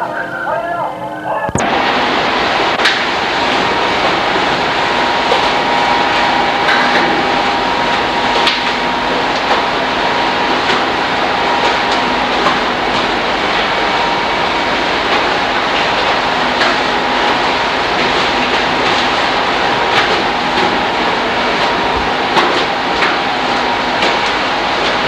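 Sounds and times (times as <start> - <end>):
loud machinery hum: 0.0 - 25.0.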